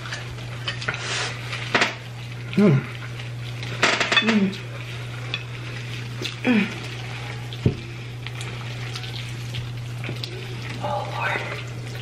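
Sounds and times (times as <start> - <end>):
wet noodles being stirred: 0.0 - 3.8, 4.4 - 12.0
steady low hum: 0.0 - 12.0.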